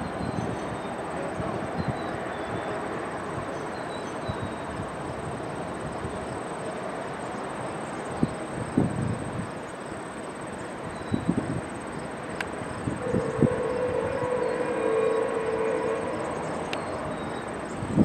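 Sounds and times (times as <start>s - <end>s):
insect whine: 0.0s - 18.0s
train rumbling: 0.0s - 18.0s.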